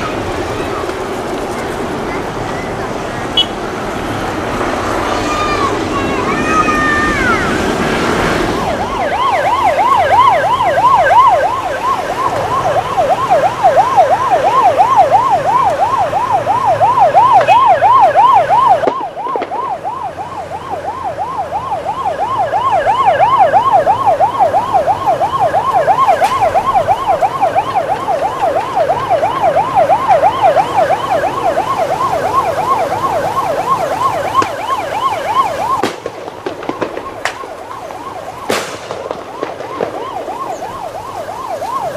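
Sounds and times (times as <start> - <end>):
emergency vehicle siren wailing: 0.0 - 41.9.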